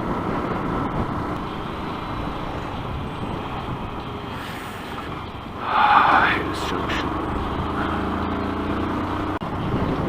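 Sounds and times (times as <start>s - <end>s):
wind rushing on microphone: 0.0s - 8.3s, 9.4s - 10.0s
motorcycle road noise: 0.0s - 10.0s.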